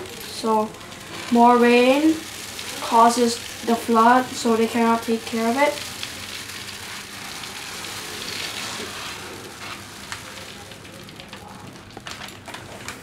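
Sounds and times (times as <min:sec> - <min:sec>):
foam balls pattering: 0:00.0 - 0:13.0.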